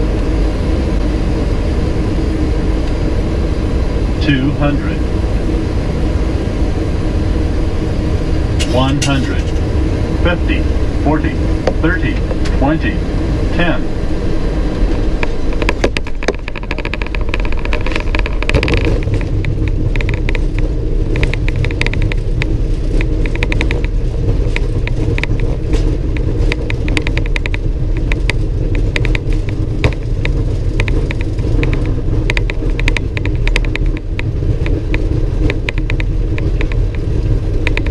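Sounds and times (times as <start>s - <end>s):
engine and wheels rumbling: 0.0s - 37.9s
rattling and clicking in cockpit: 0.0s - 37.9s.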